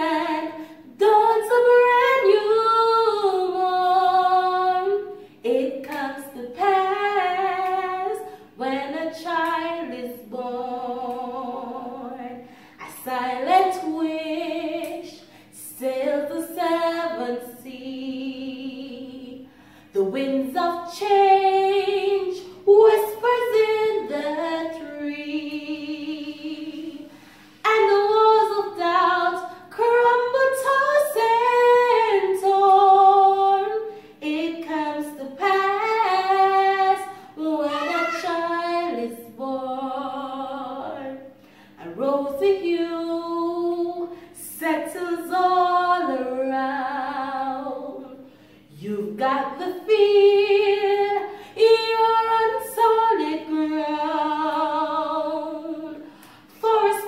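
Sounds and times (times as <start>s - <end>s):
woman singing slow christmas song: 0.0s - 57.0s.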